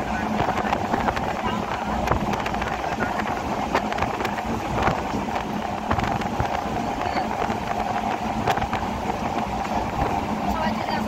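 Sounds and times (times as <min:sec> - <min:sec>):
train rumble: 0:00.0 - 0:11.0
wheels clicking on rails: 0:00.0 - 0:11.0
wind rushing: 0:00.0 - 0:11.0.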